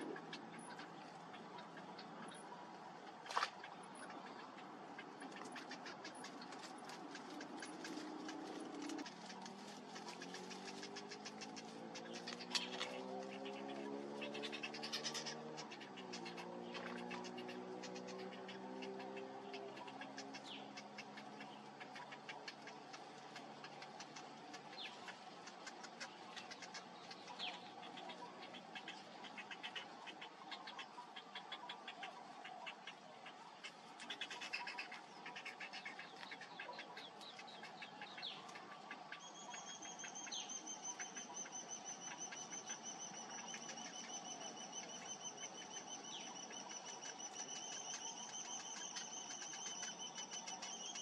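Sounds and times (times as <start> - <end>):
birds rustling in reeds: 0.0 - 51.0
chicks begging calls ticking: 0.0 - 51.0.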